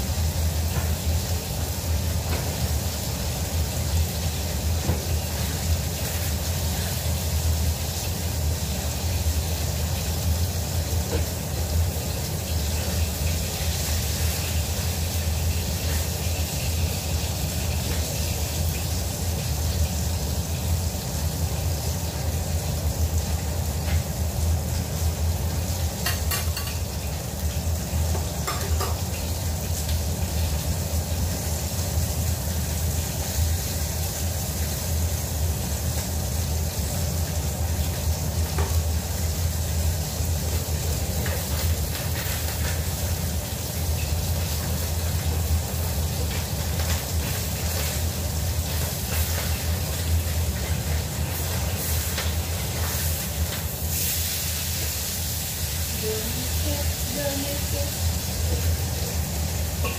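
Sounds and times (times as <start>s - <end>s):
food sizzling in a wok: 0.0s - 59.9s
gas flame rumble: 0.0s - 59.9s.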